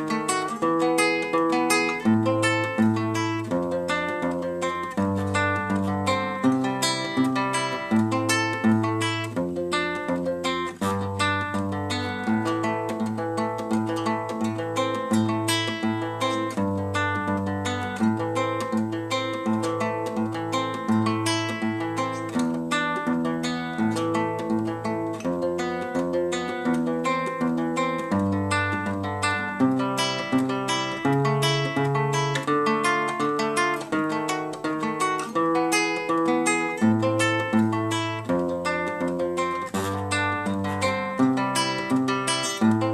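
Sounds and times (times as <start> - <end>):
acoustic guitar instrumental: 0.0 - 42.9.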